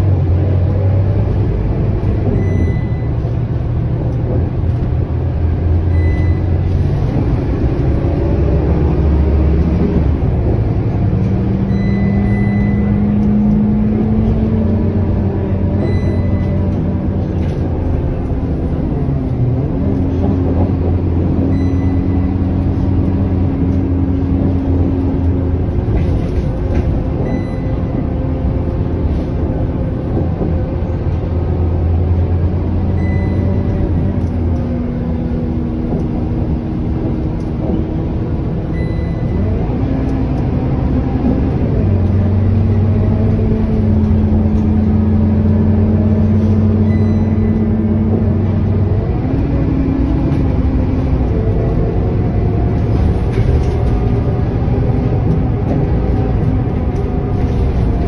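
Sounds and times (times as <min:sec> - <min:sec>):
bus engine hum: 0:00.0 - 0:58.0
road and tyre noise: 0:00.0 - 0:58.0.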